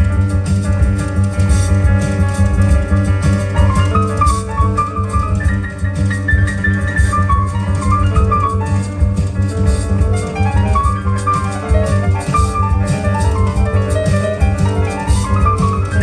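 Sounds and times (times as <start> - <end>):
double bass: 0.0 - 16.0
drums: 0.0 - 16.0
piano melody: 0.0 - 16.0.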